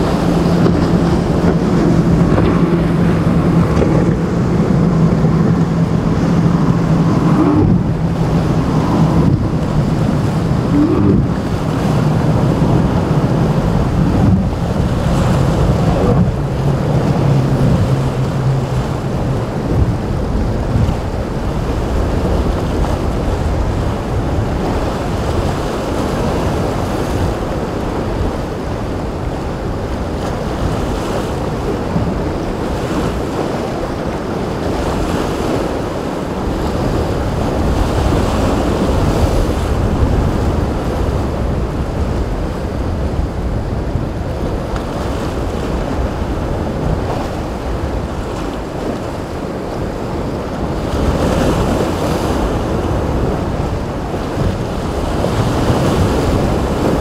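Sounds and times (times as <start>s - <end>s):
surf breaking and sloshing: 0.0s - 57.0s
wind buffeting microphone: 0.0s - 57.0s.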